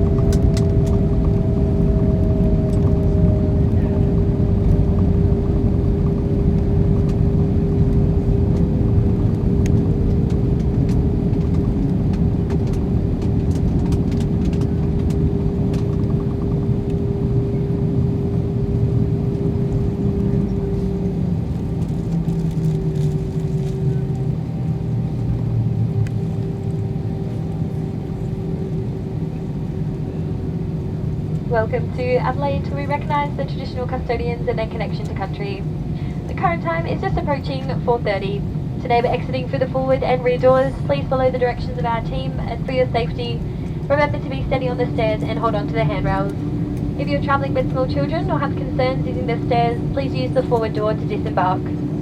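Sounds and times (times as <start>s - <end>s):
aircraft cabin engine drone: 0.0s - 52.0s.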